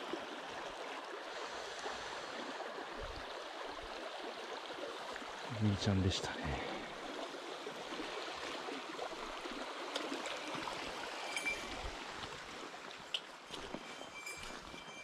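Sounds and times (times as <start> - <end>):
stream running over gravel: 0.0 - 15.0.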